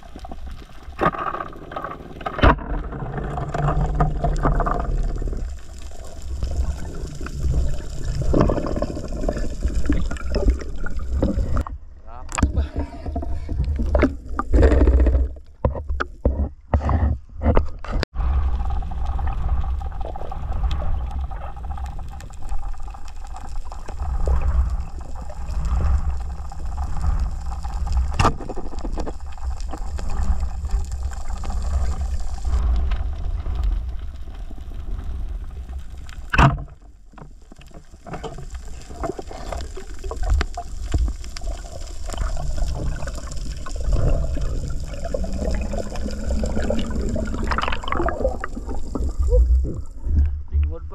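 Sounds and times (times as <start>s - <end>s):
water splashing: 0.0s - 11.7s, 18.2s - 50.5s
underwater rumble: 0.0s - 50.9s.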